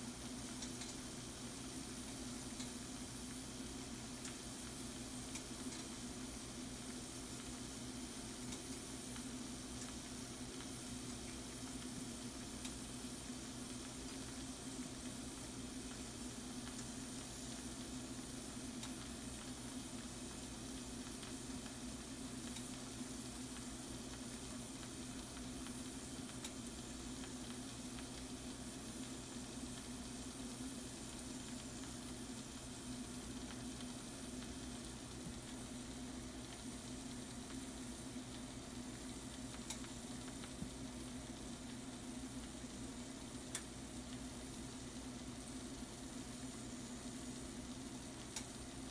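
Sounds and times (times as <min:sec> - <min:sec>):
shrimp and mushrooms sizzling in pan: 0:00.0 - 0:48.9.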